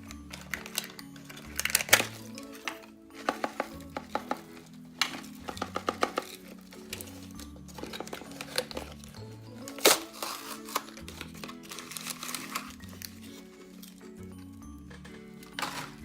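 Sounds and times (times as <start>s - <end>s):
plastic package crinkling: 0.0s - 14.2s, 14.8s - 16.0s.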